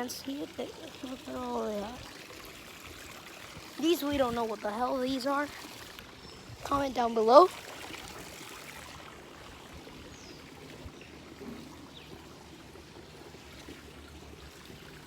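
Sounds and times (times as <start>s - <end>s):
trickle of running water: 0.0s - 15.0s.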